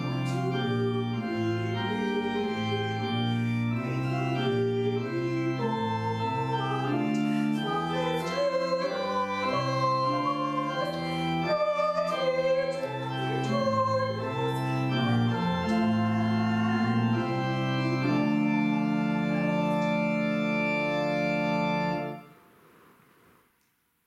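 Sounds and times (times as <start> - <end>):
organ playing hymn chords: 0.0 - 22.4.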